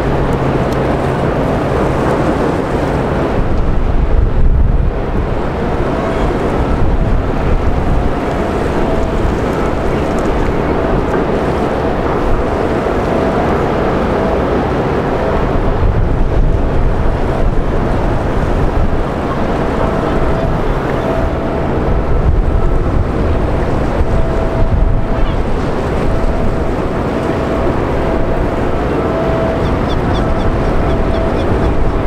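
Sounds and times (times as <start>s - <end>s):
faint hum: 0.0s - 32.0s
ship engine low rumble: 0.0s - 32.0s
water washing along hull: 0.0s - 32.0s
wind buffeting microphone: 0.0s - 32.0s.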